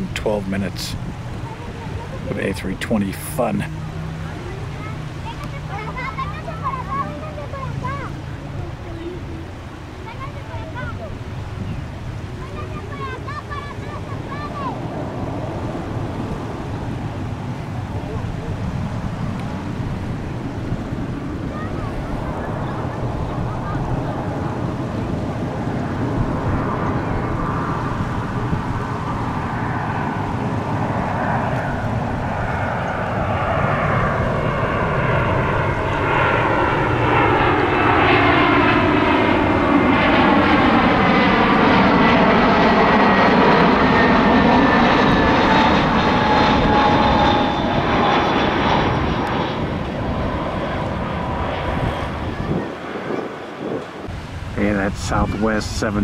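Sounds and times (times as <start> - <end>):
jet airliner flying past: 0.0 - 56.0.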